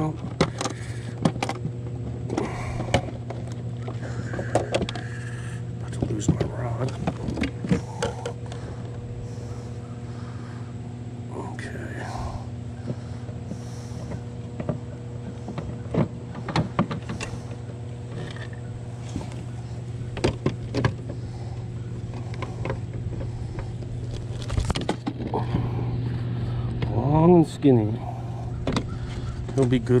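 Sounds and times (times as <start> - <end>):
low electric hum: 0.0 - 30.0.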